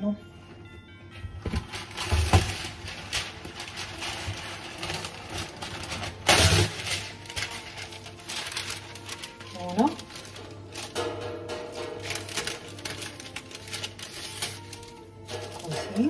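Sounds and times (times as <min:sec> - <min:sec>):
parchment paper rustling: 0:01.4 - 0:16.0.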